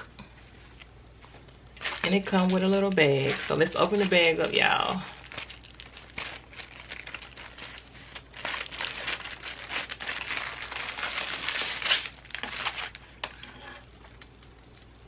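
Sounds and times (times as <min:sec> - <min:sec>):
bag crinkling and rustling: 0:01.7 - 0:14.9.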